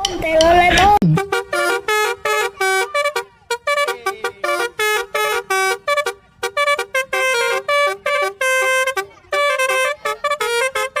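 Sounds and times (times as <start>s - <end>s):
multi-tone bus horn tune: 1.1s - 11.0s.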